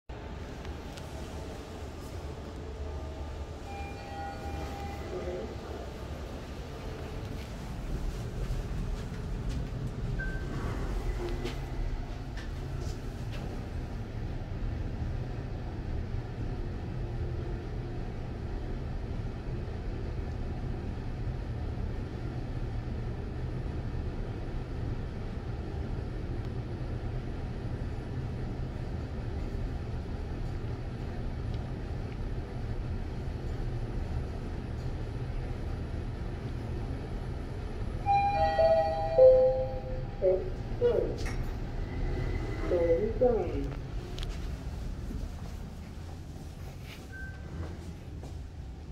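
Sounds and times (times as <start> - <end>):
lift running rumble and hum: 0.1 - 48.9.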